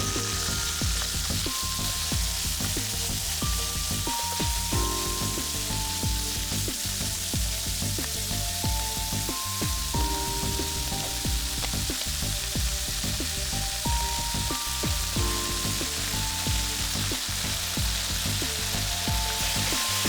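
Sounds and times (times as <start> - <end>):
background music: 0.0 - 20.0
food sizzling in a pan: 0.0 - 20.0.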